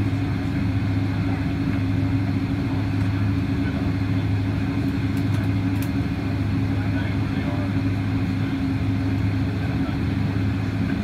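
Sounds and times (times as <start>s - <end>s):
aircraft cabin rush: 0.0s - 11.0s.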